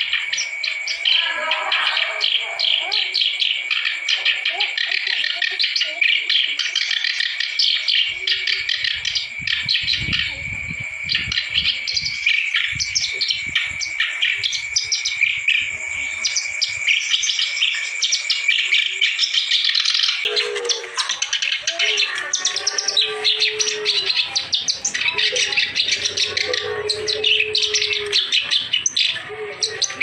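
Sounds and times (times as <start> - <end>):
reed warbler singing: 0.0 - 30.0.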